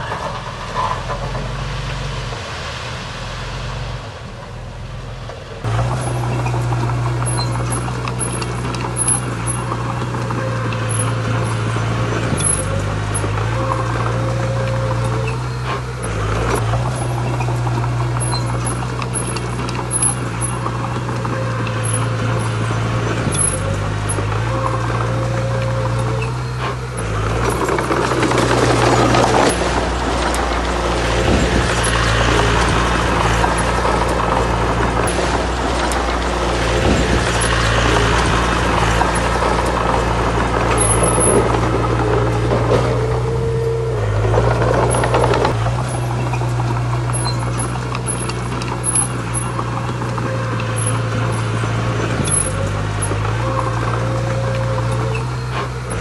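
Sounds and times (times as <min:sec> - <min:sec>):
diesel engine under load: 0:00.0 - 0:56.0
knocks and rattles: 0:05.6 - 0:56.0.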